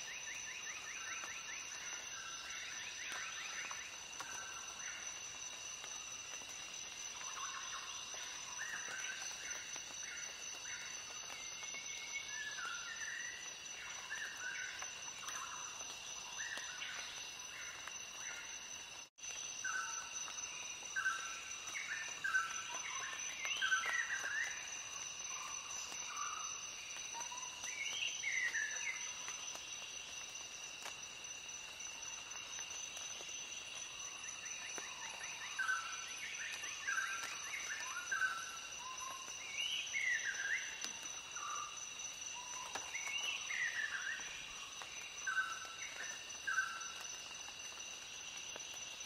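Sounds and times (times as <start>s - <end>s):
high insect drone: 0.0s - 49.0s.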